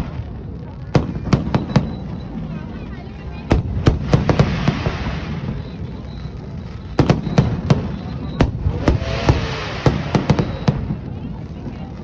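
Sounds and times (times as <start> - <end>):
fireworks bangs: 0.0 - 12.0
fireworks crackling hiss: 0.0 - 12.0.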